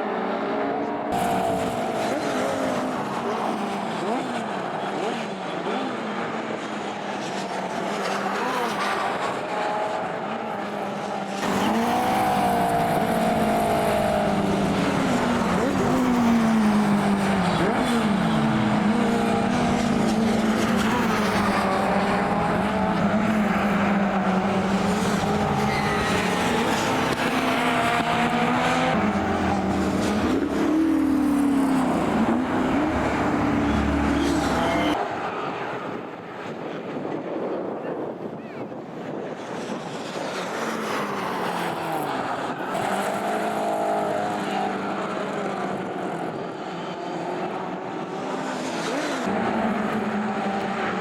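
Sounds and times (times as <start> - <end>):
racing car engines revving: 0.0 - 37.7, 38.3 - 51.0.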